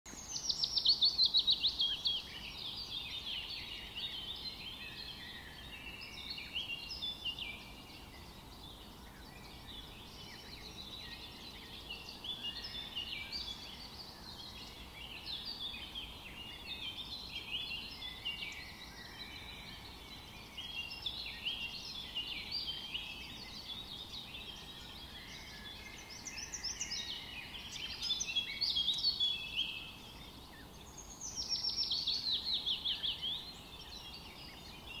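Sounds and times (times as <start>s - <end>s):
small birds chirping: 0.1s - 35.0s.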